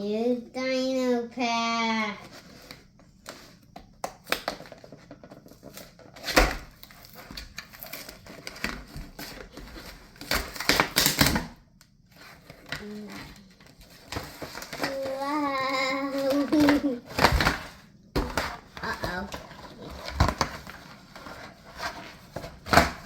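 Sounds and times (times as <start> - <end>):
plastic packaging crackling: 4.2 - 23.0.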